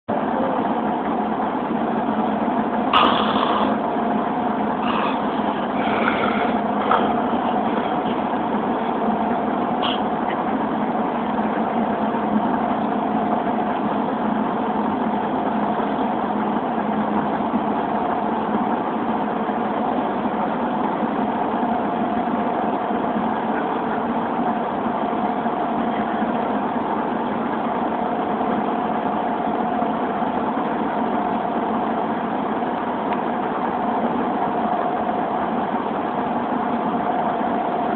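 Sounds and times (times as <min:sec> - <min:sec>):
road noise: 0:00.1 - 0:37.9
van engine drone: 0:00.1 - 0:37.9.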